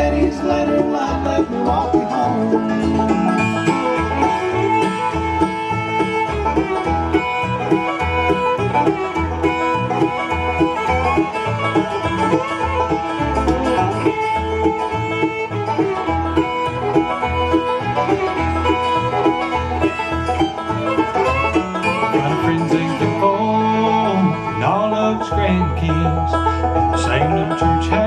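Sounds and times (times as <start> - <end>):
banjo picking: 0.0 - 28.0
bass beat: 0.0 - 28.0
guitar: 0.0 - 28.0.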